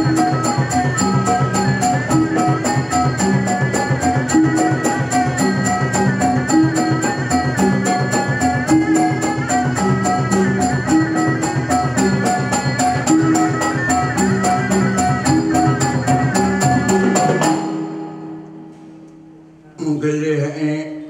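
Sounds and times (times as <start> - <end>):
high melody: 0.0 - 20.0.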